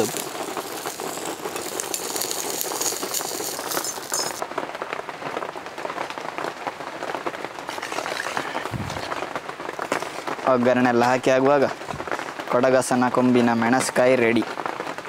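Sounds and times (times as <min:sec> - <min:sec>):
leaves sizzling in hot oil: 0:00.0 - 0:04.5, 0:06.4 - 0:14.5.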